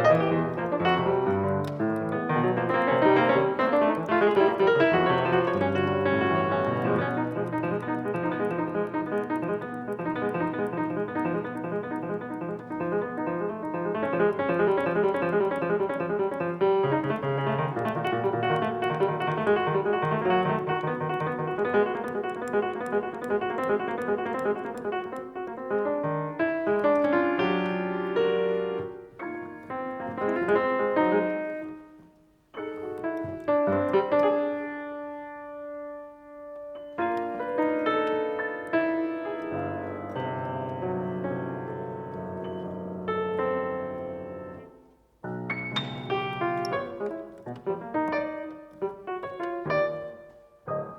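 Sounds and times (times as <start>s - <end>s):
solo piano playing: 0.0s - 50.9s.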